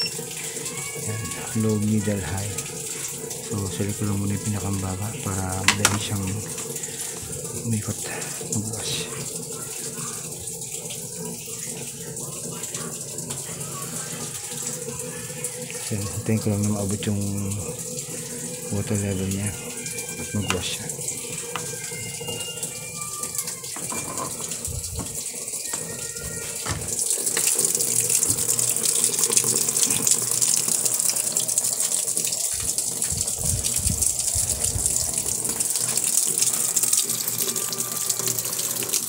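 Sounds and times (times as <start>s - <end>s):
water pouring into washing machine: 0.0s - 39.0s.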